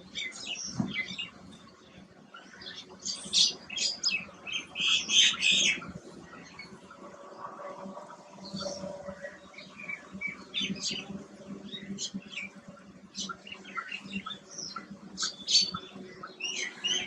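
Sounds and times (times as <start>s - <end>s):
small birds chirping: 0.0s - 7.1s, 8.1s - 17.0s.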